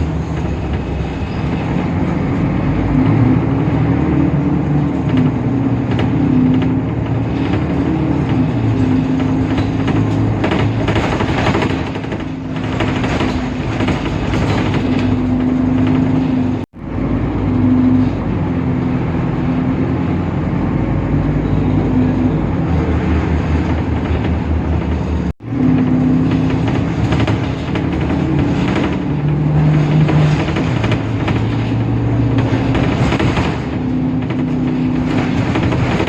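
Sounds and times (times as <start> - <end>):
bus diesel engine droning: 0.0 - 36.0.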